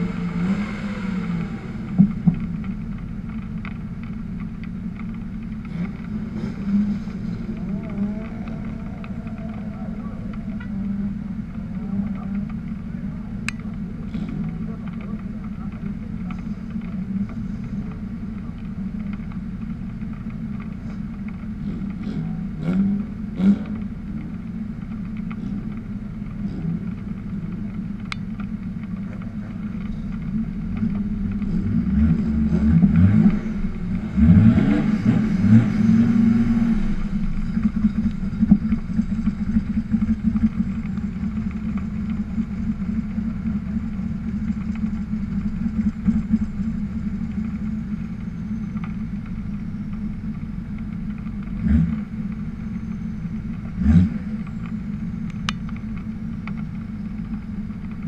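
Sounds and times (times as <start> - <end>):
engine revving: 0.0 - 19.2, 20.3 - 58.0
car engines idling: 0.0 - 58.0.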